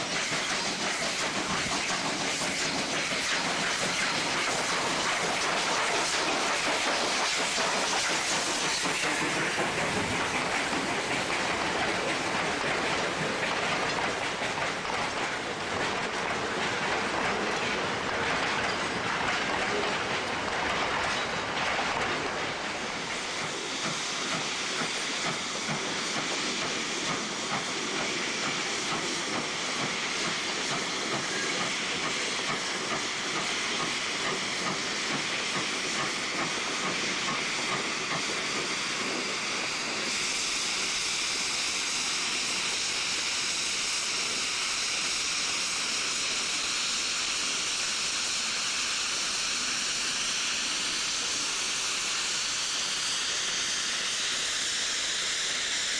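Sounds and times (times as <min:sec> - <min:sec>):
steam locomotive hissing: 0:00.0 - 0:55.9.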